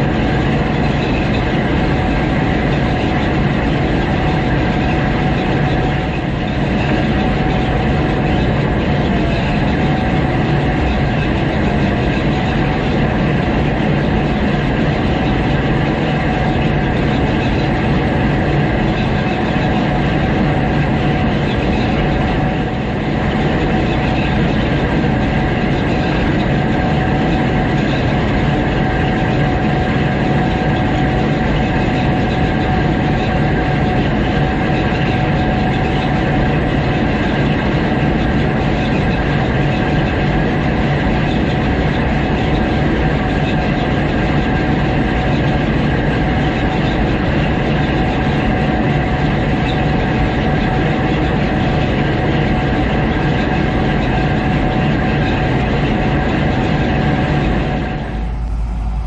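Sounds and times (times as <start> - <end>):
combine harvester drone: 0.0 - 59.0
high mechanical whine: 0.0 - 59.0.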